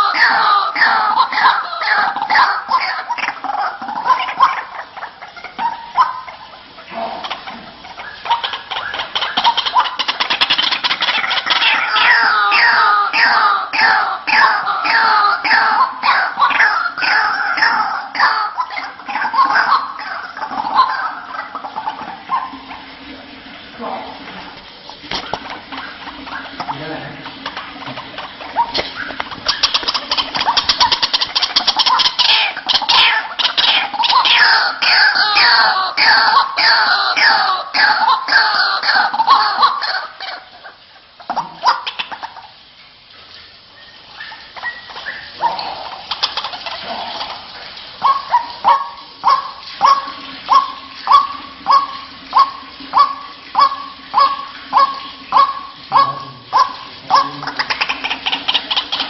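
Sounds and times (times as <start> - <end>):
waterhen calling: 0.0 - 59.0.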